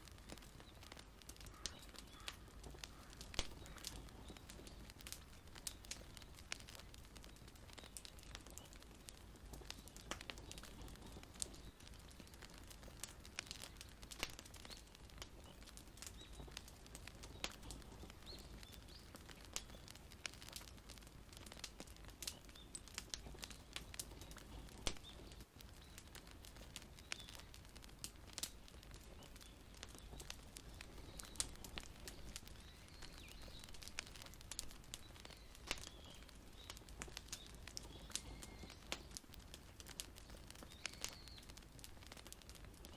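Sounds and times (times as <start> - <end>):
low steady hiss: 0.0 - 42.9
wood fire crackling: 0.0 - 42.9.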